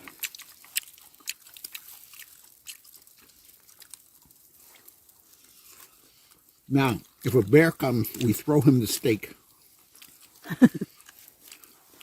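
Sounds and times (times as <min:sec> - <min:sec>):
person chewing steak: 0:00.0 - 0:12.0.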